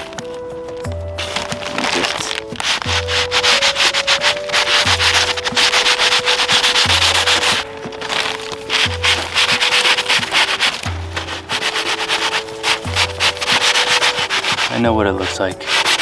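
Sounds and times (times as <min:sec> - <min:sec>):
sanding wooden shaft: 0:00.0 - 0:16.0.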